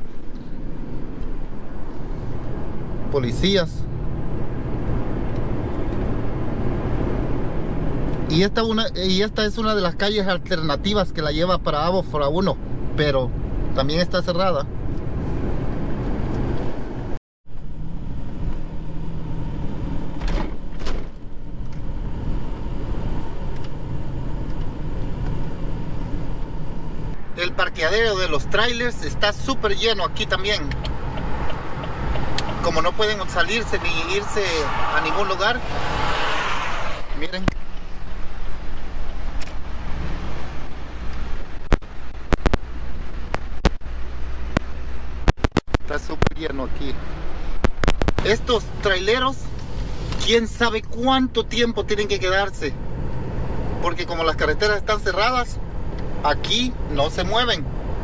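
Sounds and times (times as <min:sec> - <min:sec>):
car cabin road noise: 0:00.0 - 0:58.0.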